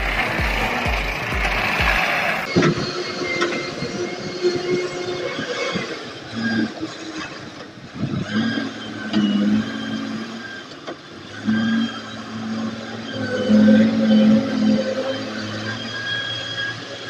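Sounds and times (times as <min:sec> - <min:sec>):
excavator engine running: 0:00.0 - 0:17.0
steady high whine: 0:00.0 - 0:17.0.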